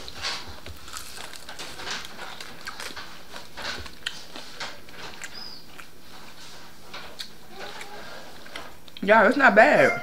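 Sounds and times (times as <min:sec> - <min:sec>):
crispy chicken chewing: 0:00.0 - 0:09.0.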